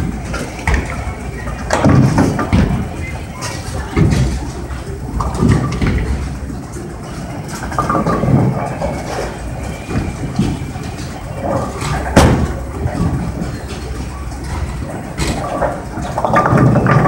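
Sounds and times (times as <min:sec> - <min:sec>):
bowling balls rolling down lanes: 0:00.0 - 0:17.0.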